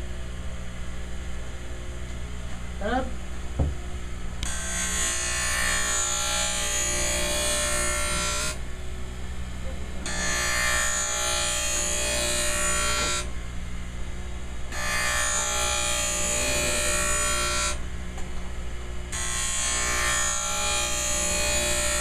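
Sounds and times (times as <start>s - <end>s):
grinding wheel humming: 0.0s - 22.0s.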